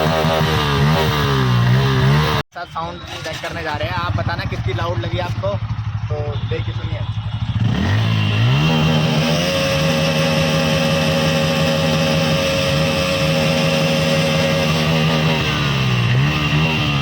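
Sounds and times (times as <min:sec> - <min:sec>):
motorcycle exhaust idling and revving: 0:00.0 - 0:02.4, 0:03.0 - 0:17.0.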